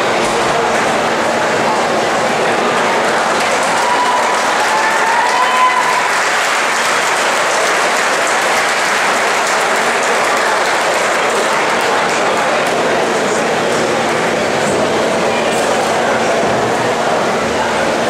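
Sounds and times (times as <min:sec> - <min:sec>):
crowd applauding: 0:01.6 - 0:18.0.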